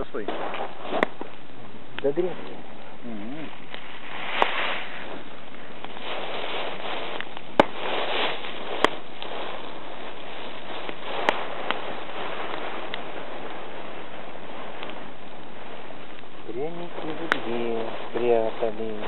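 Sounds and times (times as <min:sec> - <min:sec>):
campfire hissing: 0:00.0 - 0:19.0
fire crackling pops: 0:00.0 - 0:19.0.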